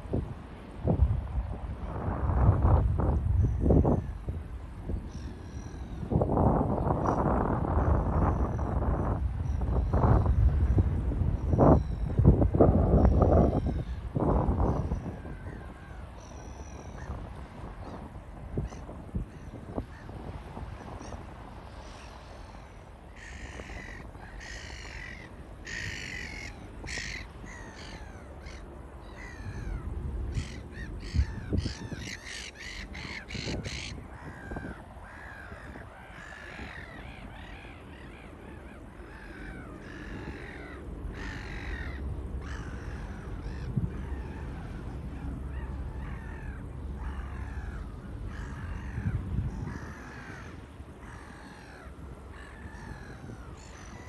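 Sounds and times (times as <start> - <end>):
birds calling: 7.8 - 54.0.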